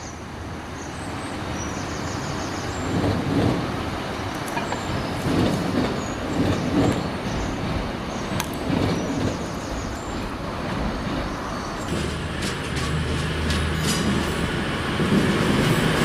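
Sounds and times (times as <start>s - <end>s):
large vehicle rumbling: 2.7s - 16.0s.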